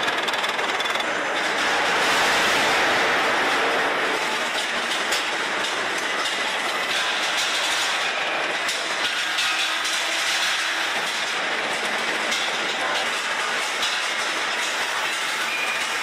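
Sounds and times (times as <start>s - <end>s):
industrial machinery noise: 0.0s - 16.0s.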